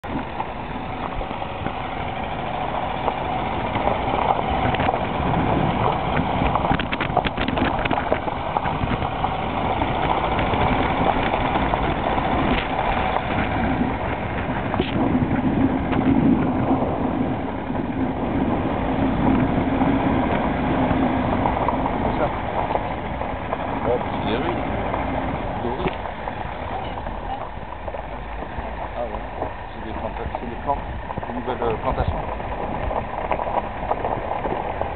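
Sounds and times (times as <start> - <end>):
car engine running: 0.0 - 34.9
tyres on gravel: 0.0 - 34.9.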